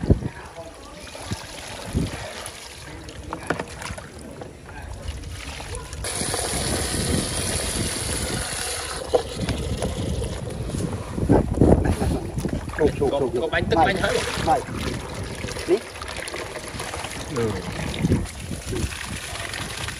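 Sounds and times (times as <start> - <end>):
water splashing into basin: 0.0 - 10.9, 12.4 - 19.9
water sloshing: 0.0 - 19.9.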